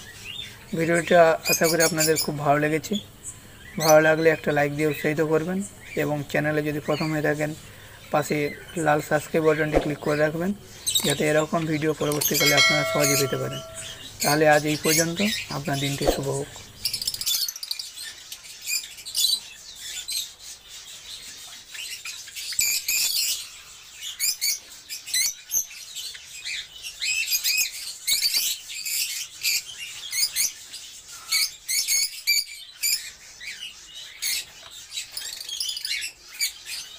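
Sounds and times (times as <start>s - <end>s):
lovebirds chirping: 0.0s - 36.9s.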